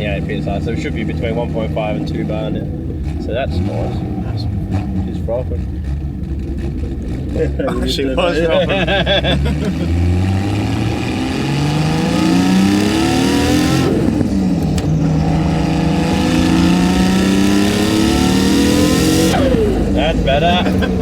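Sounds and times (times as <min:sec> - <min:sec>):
turbocharged engine accelerating hard: 0:00.0 - 0:21.0.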